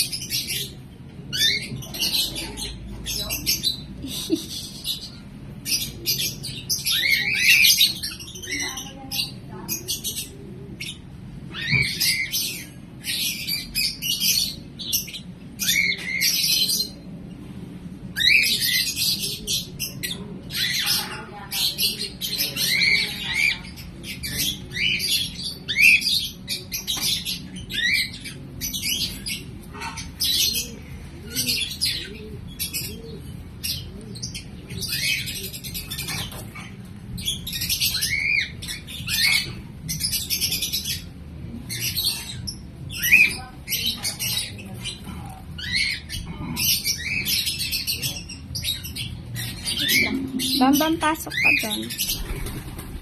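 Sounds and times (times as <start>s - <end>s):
lovebirds chirping and squawking: 0.0s - 53.0s.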